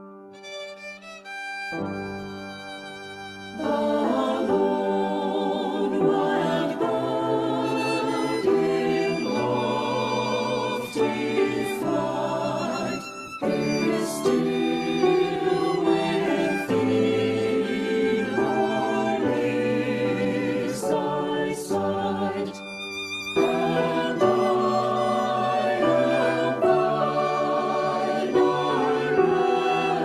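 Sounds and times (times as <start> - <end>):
choir singing a slow hymn: 3.0 - 30.0.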